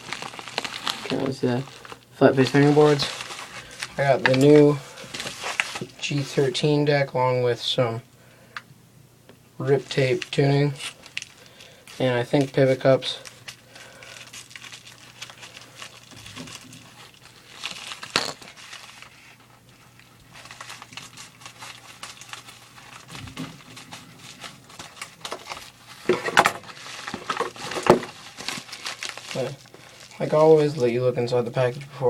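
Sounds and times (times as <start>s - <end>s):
packaging crinkling and rustling: 0.0s - 6.7s, 9.6s - 31.9s.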